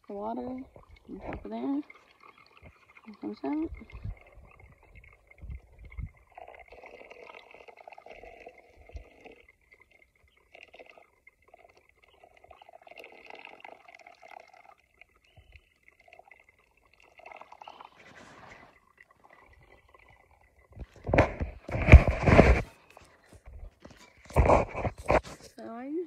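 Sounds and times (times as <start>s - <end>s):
water trickling onto coffee grounds: 0.0s - 25.9s.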